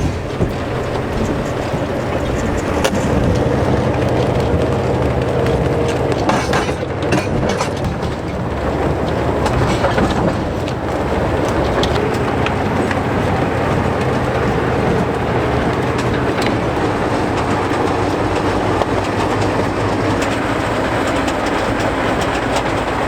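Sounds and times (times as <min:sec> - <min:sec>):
heavy vehicle engine running: 0:00.0 - 0:23.0
metallic clicks and clanks: 0:00.0 - 0:23.0.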